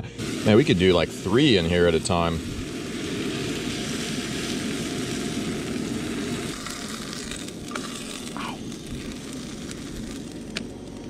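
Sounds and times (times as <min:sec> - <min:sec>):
cheese sizzling in a pan: 0:00.0 - 0:11.0.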